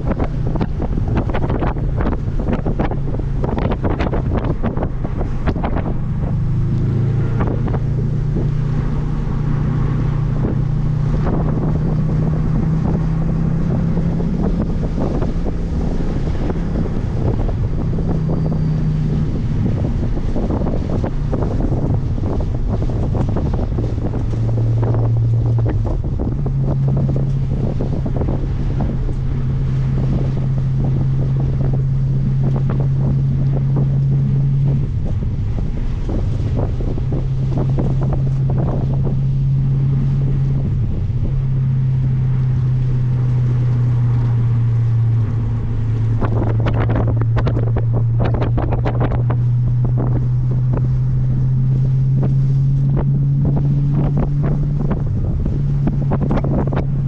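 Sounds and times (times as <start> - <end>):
steady low drone: 0.0 - 57.0
wind buffeting microphone: 0.0 - 57.0.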